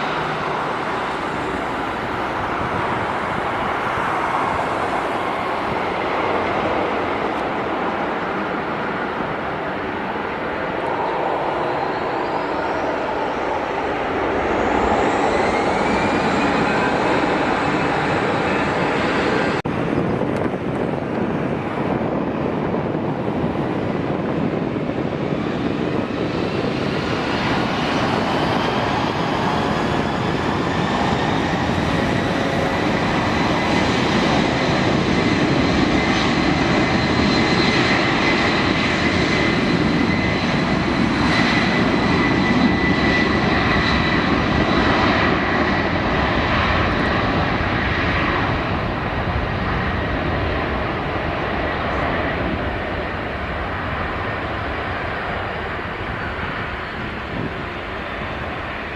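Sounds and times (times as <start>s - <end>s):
jet engine whine: 0.0s - 58.9s
jet engines roaring: 0.0s - 58.9s.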